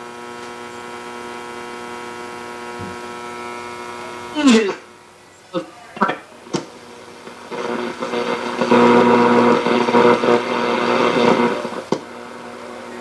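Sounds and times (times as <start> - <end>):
radio speaker buzzing with static: 0.0 - 13.0.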